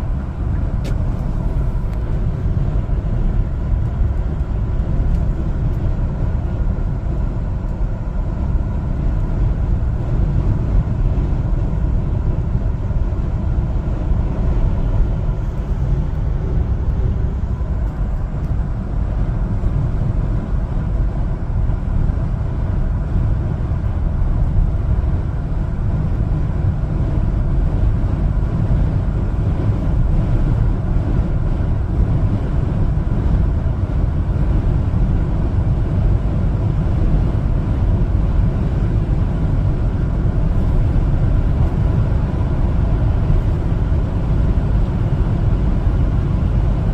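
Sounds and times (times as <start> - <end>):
truck engine and road rumble: 0.0 - 46.9.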